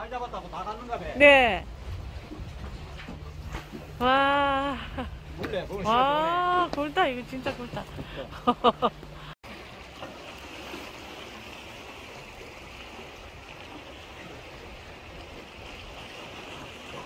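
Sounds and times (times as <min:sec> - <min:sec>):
seawater washing against breakwater: 0:00.0 - 0:17.0.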